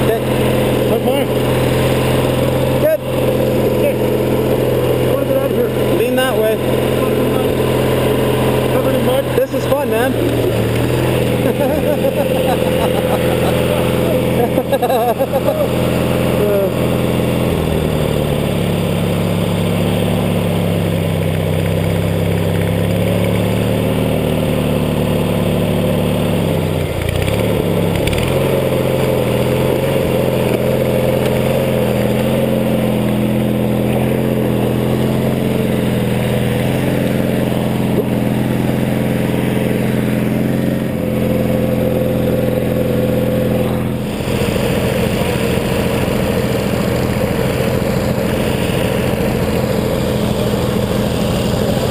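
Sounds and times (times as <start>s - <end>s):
lawn tractor engine running: 0.0s - 51.9s.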